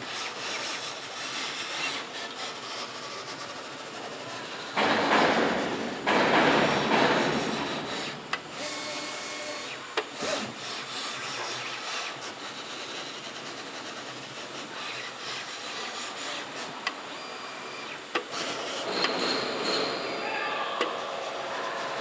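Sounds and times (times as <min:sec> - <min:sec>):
cutting machine rubbing and scraping: 0:00.0 - 0:05.2, 0:06.6 - 0:20.2.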